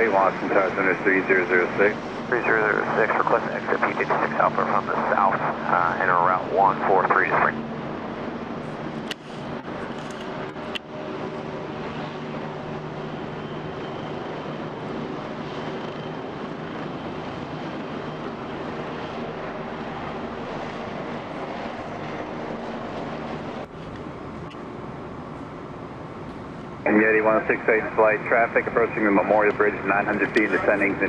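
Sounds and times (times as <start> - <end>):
helicopter engine and rotor: 0.0 - 31.0.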